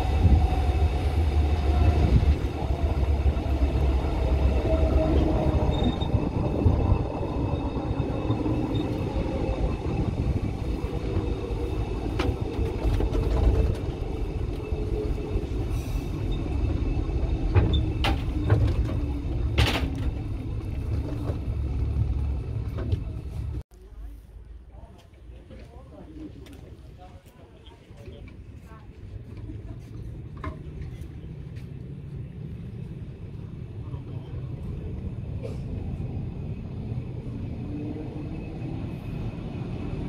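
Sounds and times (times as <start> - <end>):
train rumbling along track: 0.0 - 23.6, 24.7 - 40.0.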